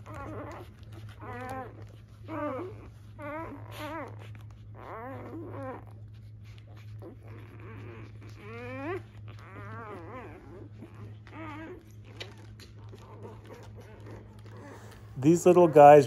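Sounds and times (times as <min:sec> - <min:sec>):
puppies squealing and whining: 0:00.0 - 0:16.0
steady low hum: 0:00.0 - 0:16.0.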